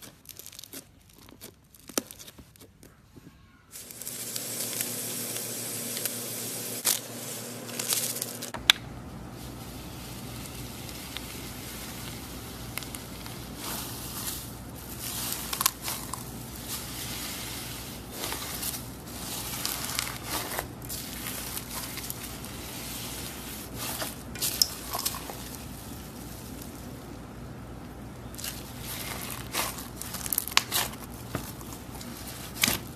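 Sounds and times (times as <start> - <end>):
slime crackling and squishing: 0.0 - 3.9, 7.6 - 32.9
foam beads pouring: 3.7 - 8.6, 9.3 - 27.1, 28.3 - 32.9.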